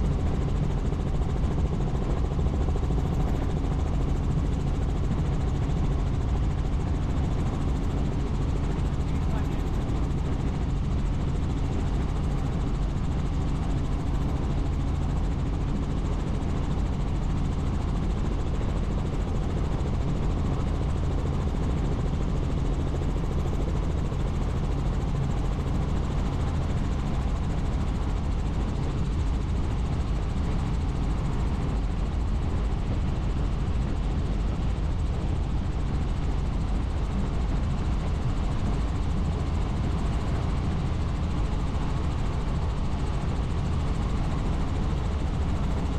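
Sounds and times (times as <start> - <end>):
helicopter engine and rotor drone: 0.0 - 45.9.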